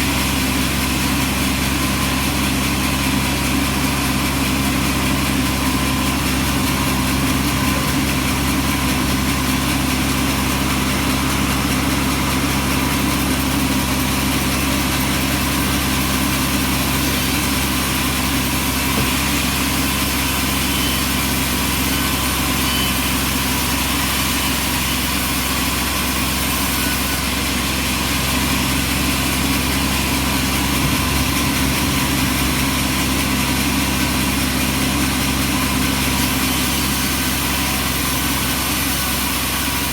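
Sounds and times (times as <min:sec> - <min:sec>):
bandsaw sawmill running: 0:00.0 - 0:39.9.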